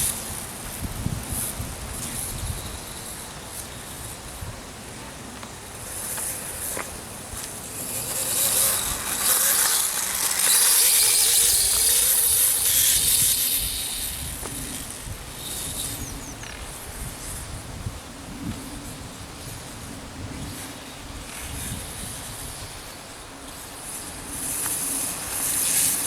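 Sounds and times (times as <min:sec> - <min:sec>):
rc dirt bike motor whine: 0:00.0 - 0:26.0.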